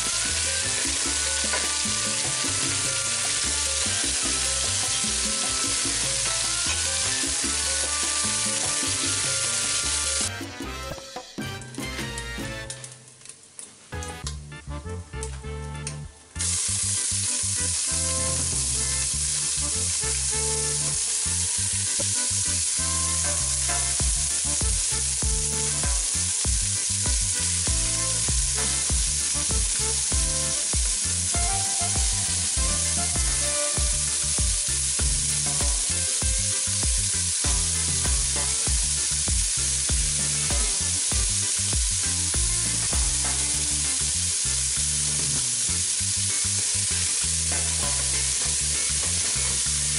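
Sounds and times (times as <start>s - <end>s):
vegetables sizzling in hot oil: 0.0s - 11.5s, 16.4s - 49.9s.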